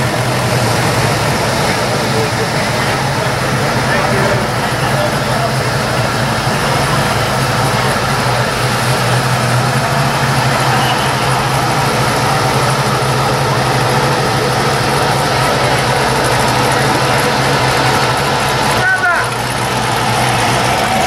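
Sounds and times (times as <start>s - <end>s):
car engines idling: 0.0s - 21.0s.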